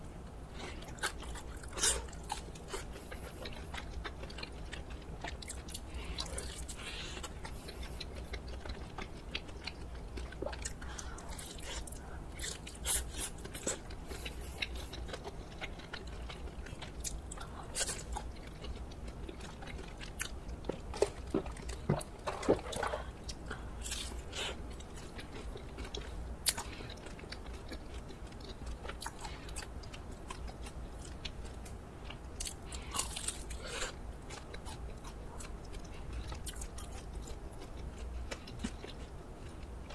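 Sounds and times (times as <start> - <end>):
crunchy bites and chewing: 0.6 - 39.9.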